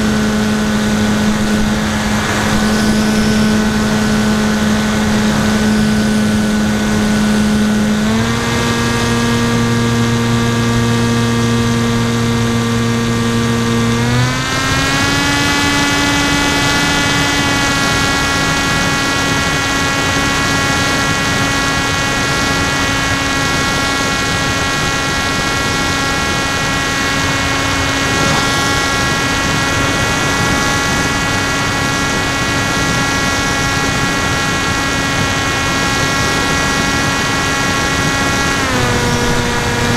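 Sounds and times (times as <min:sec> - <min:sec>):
electric motor propeller drone: 0:00.0 - 0:39.9.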